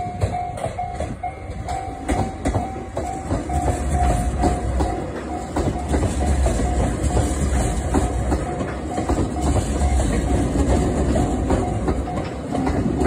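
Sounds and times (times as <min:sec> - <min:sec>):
electric train passing: 0:00.0 - 0:13.0
level crossing warning bell: 0:00.0 - 0:13.0
wheels clattering over rail joints: 0:00.0 - 0:13.0.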